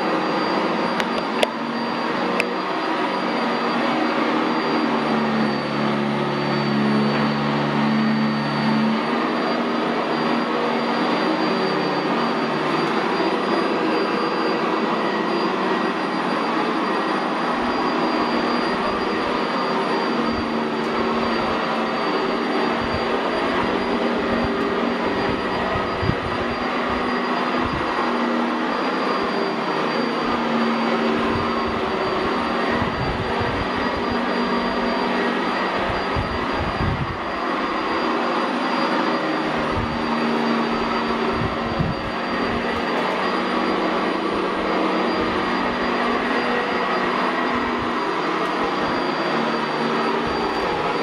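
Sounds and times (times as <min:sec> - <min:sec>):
vacuum cleaner running on carpet: 0:00.0 - 0:51.0.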